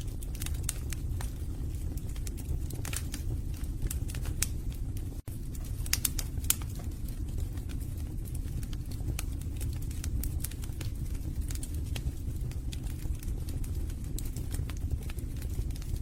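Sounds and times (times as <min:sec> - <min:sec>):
logs crackling and popping: 0:00.0 - 0:16.0
rumble of fire flames: 0:00.0 - 0:16.0.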